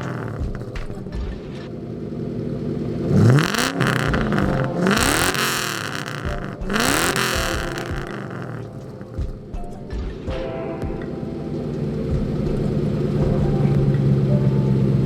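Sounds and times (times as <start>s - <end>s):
car engine idling and revving: 0.0s - 10.3s, 11.0s - 15.0s.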